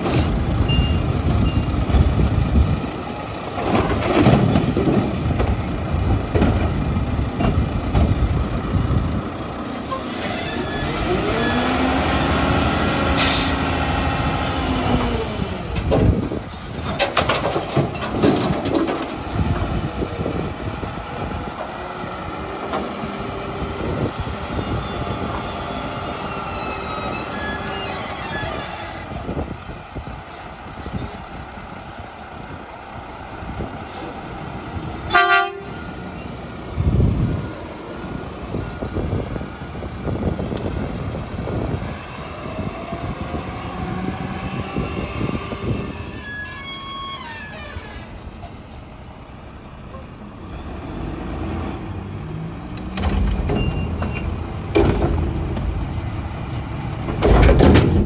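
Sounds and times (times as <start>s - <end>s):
truck engine and hydraulics running: 0.0s - 58.0s.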